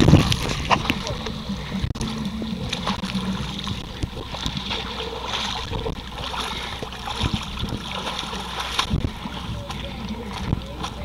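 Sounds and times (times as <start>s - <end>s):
muddy water sloshing: 0.0s - 11.0s.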